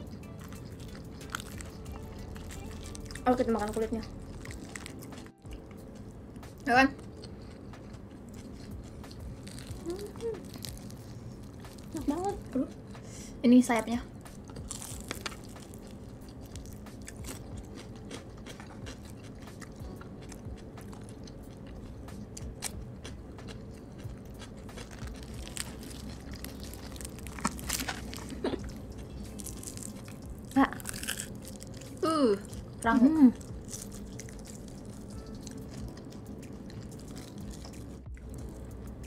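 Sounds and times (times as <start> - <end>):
crunching fried chicken: 0.0 - 12.7, 14.2 - 39.0
chewing: 0.0 - 13.0, 14.3 - 39.0.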